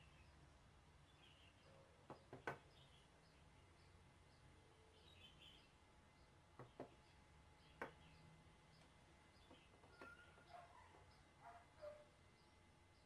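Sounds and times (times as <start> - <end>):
faint bird chirps: 1.0 - 13.0.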